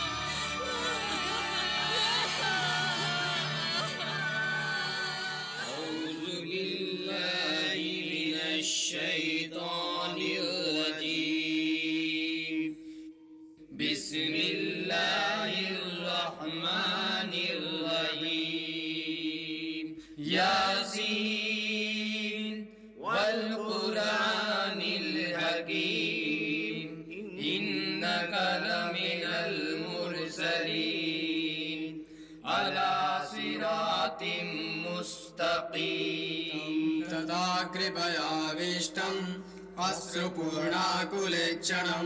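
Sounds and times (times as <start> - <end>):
men chanting a recitation: 0.0 - 12.8, 13.8 - 42.0.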